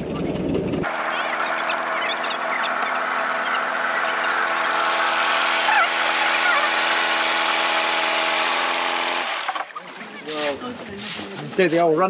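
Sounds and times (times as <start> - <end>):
tractor engine running: 0.5 - 11.0.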